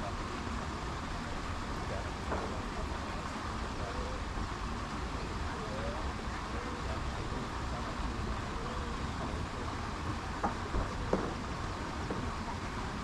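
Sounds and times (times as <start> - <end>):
distant traffic: 0.0 - 13.0
faint far-off voices: 0.0 - 13.0.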